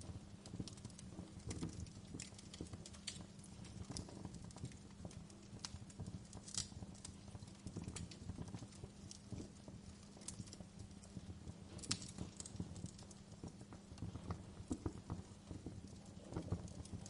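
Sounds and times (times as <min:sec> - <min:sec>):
fireplace crackling and popping: 0:00.0 - 0:17.0.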